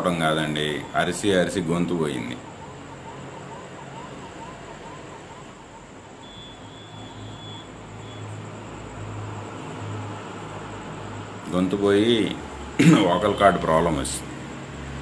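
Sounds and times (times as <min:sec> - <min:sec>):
faint siren wailing: 0:00.0 - 0:14.2.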